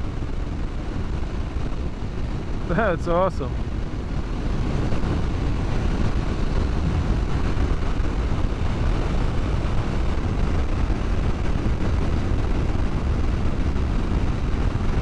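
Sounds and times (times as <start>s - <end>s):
motorcycle engine drone: 0.0s - 15.0s
wind rush: 0.0s - 15.0s.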